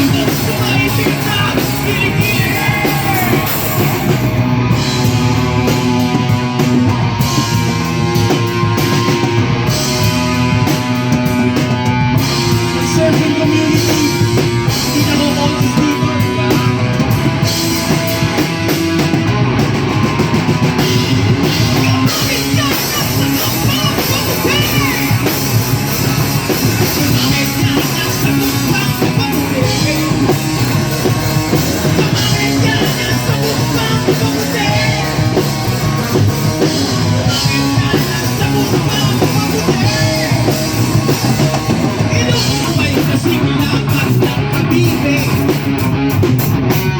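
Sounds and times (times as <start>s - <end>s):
drum kit: 0.0s - 46.9s
guitars: 0.0s - 46.9s
live rock band playing: 0.0s - 46.9s.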